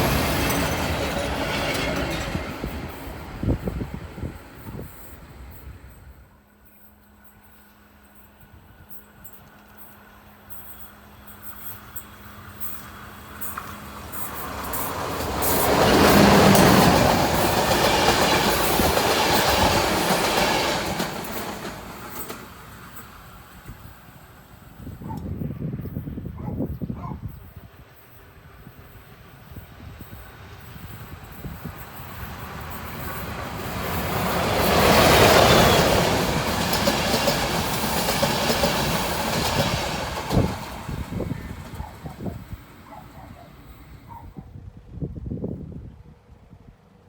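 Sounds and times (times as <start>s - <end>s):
train wheels rolling on track: 0.0s - 44.3s.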